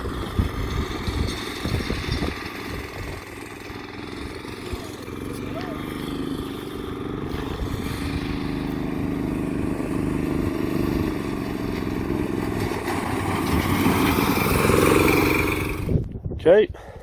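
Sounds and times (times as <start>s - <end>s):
small engine running roughly: 0.0s - 16.0s.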